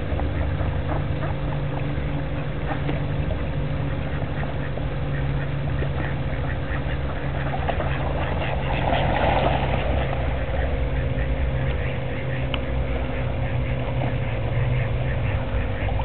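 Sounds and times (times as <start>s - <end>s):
constant hum: 0.0s - 16.0s
ducks splashing in water: 0.0s - 16.0s
low rumble: 0.0s - 16.0s.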